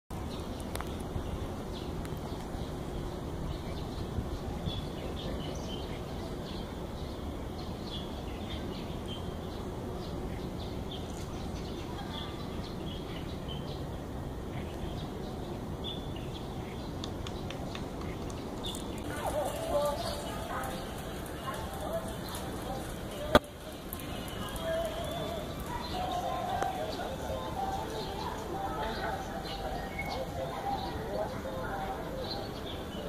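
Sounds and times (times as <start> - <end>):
small birds chirping: 0.1 - 33.0.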